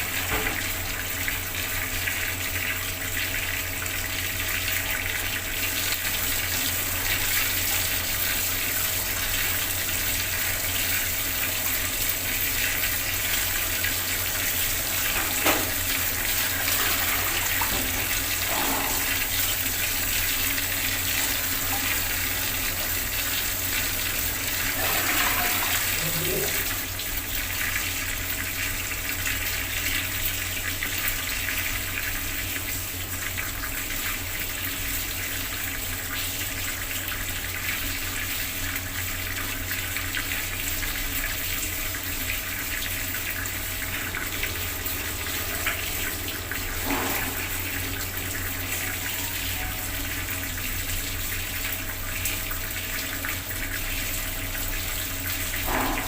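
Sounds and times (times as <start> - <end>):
water tap running: 0.0 - 56.0.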